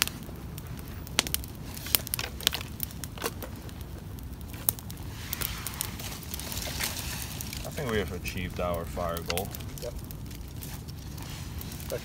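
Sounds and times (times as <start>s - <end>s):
pine needles burning and crackling: 0.0s - 12.0s
sharp fire pops: 0.0s - 12.0s.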